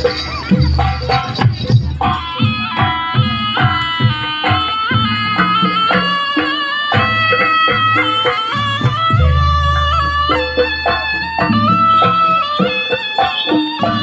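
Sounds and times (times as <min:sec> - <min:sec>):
hand drum strokes: 0:00.0 - 0:14.0
reed-like melody: 0:00.0 - 0:14.0.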